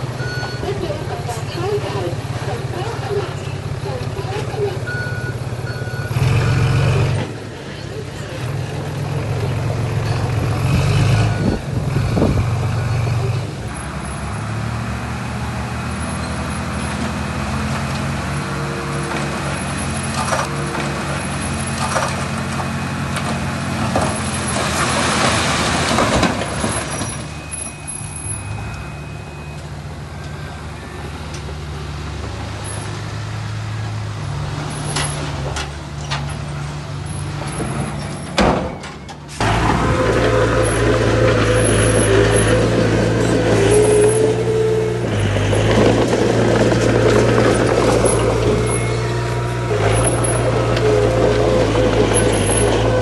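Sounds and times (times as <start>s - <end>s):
heavy diesel machinery working: 0.0s - 53.0s.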